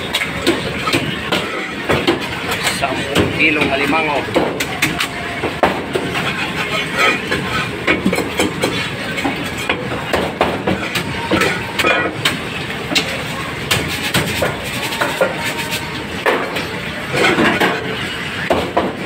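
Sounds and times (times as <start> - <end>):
steady background din: 0.0 - 19.0.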